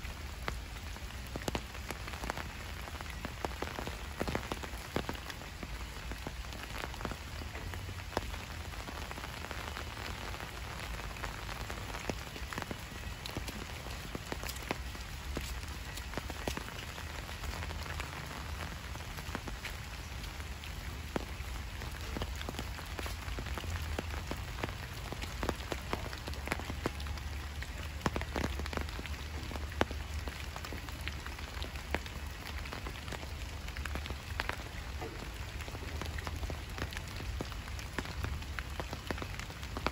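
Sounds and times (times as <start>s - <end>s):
raindrops striking: 0.0s - 39.9s.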